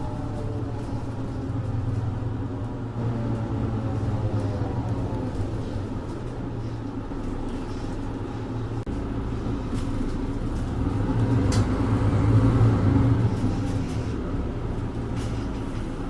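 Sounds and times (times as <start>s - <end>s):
bus engine accelerating: 0.0s - 16.0s.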